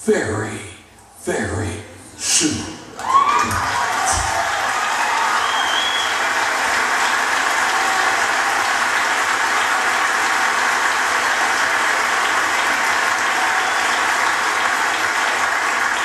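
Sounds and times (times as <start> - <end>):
crowd applauding: 2.9 - 16.0.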